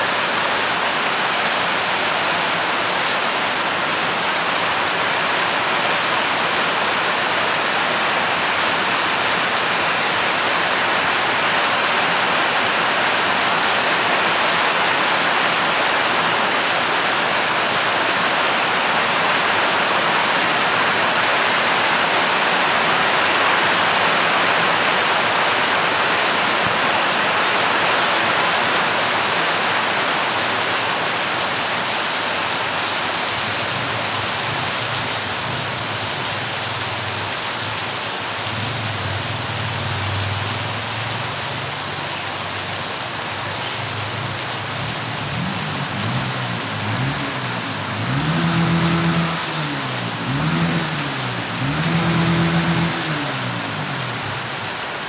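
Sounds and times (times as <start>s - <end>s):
heavy rain splashing on floodwater: 0.0s - 55.0s.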